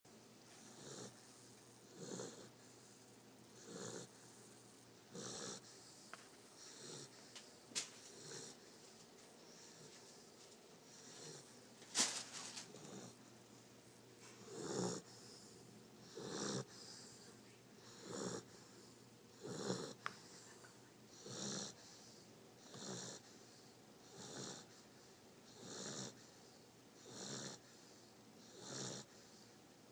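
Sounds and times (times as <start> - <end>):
puppy snoring: 0.5 - 29.6.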